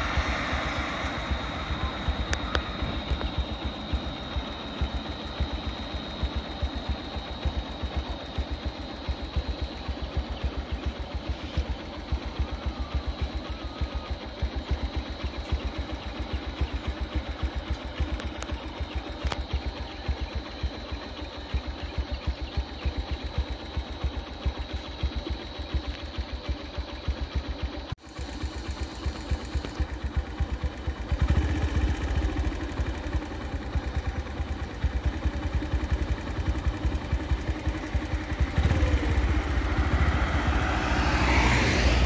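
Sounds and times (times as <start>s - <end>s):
high-pitched whine: 0.0s - 42.0s
vehicle engine idling: 0.0s - 42.0s.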